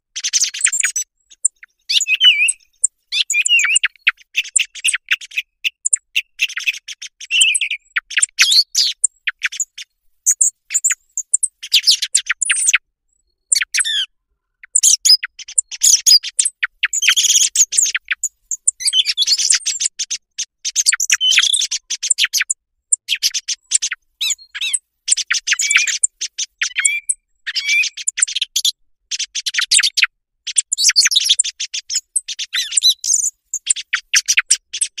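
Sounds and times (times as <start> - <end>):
song thrush singing: 0.0 - 35.0.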